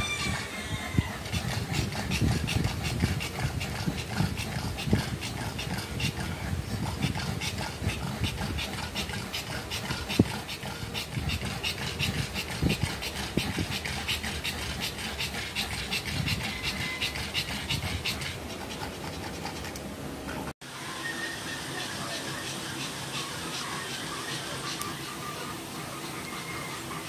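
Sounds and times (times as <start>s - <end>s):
dog panting fast: 0.0s - 20.5s, 21.7s - 27.0s.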